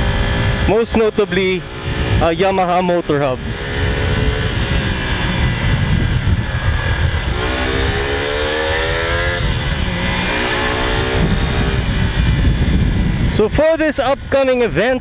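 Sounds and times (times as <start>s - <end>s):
motorcycle engine accelerating: 0.0s - 15.0s
wind noise on microphone: 0.0s - 15.0s.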